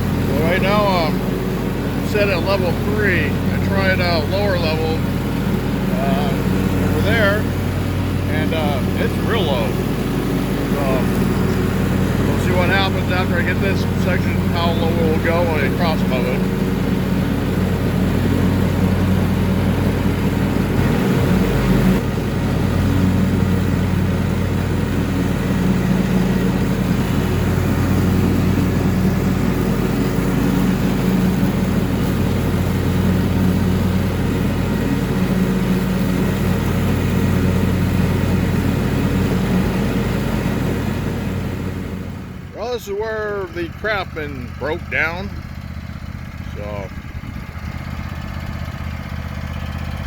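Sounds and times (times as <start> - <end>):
riding mower engine running: 0.0 - 50.0.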